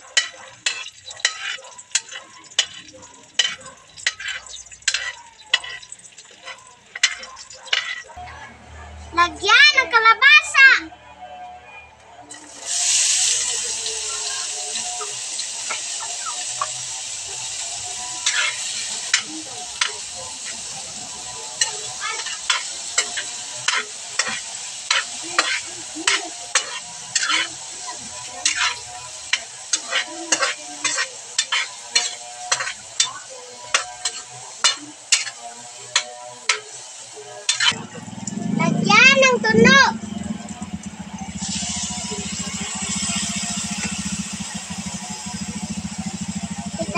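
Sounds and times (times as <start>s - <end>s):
metal spatula scraping a wok: 0.0s - 8.2s, 12.3s - 37.9s, 41.3s - 45.9s
squash sizzling in hot oil: 0.0s - 8.2s, 12.3s - 46.9s.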